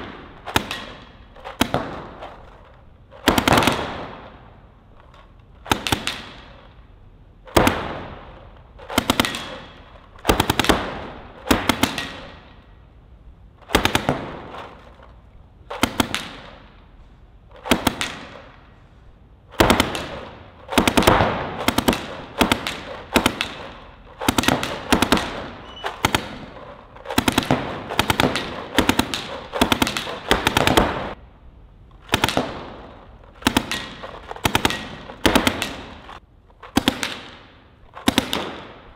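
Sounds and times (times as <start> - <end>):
paintball marker rapid shots: 0.0 - 4.3, 5.1 - 6.7, 7.5 - 12.6, 13.6 - 15.1, 15.7 - 16.7, 17.5 - 18.6, 19.5 - 31.2, 32.0 - 38.9.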